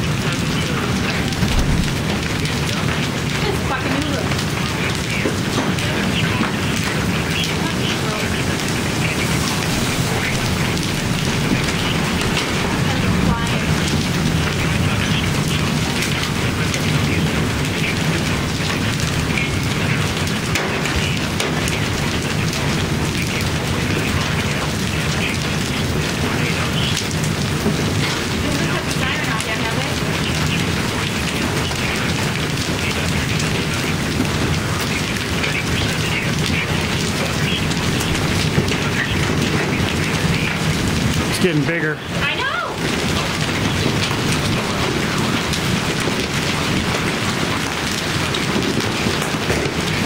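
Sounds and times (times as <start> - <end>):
hail and heavy rain pounding: 0.0 - 50.0.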